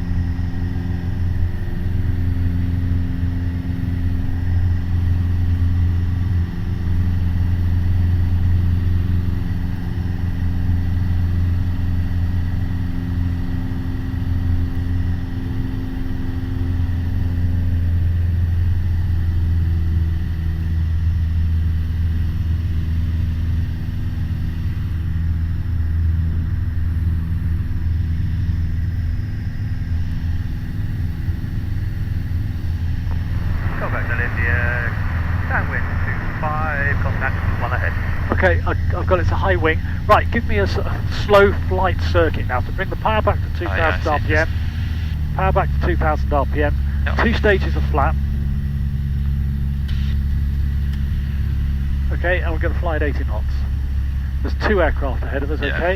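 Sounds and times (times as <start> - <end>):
propeller plane engine drone: 0.0 - 55.9.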